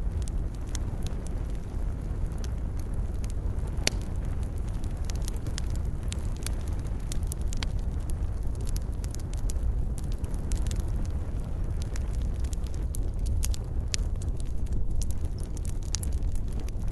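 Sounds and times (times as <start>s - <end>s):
low rushing fire sound: 0.0s - 16.9s
wood fire crackling and popping: 0.0s - 16.9s.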